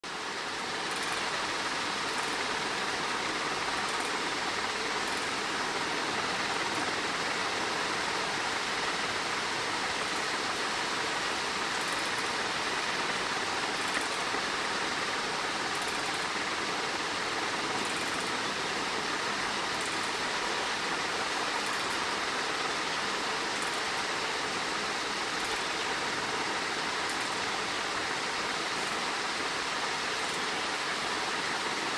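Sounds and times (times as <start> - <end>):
steady background hiss: 0.0 - 31.9.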